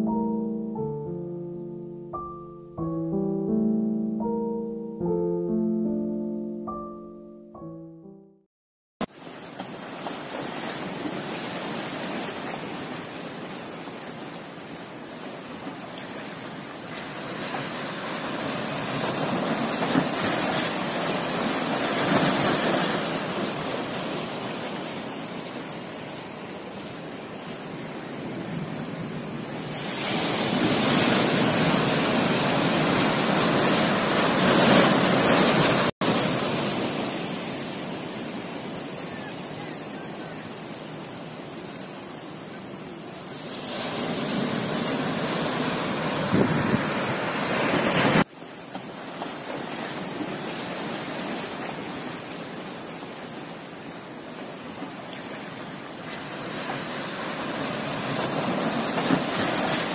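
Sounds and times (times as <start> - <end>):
ocean surf breaking: 9.0 - 48.3, 48.9 - 59.9.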